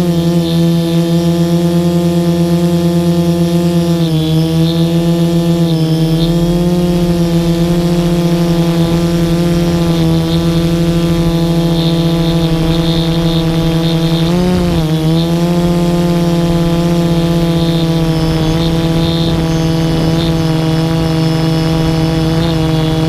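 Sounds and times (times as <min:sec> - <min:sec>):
drone propellers whirring: 0:00.0 - 0:23.0.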